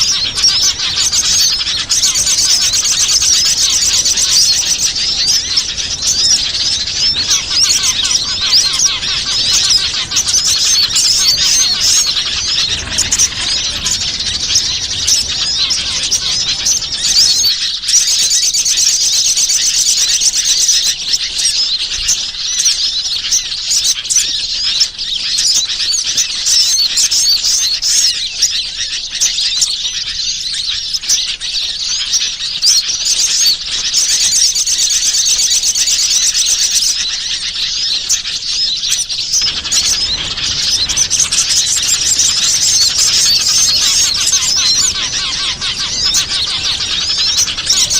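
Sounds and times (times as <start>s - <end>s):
songbirds chirping and twittering: 0.0s - 47.9s.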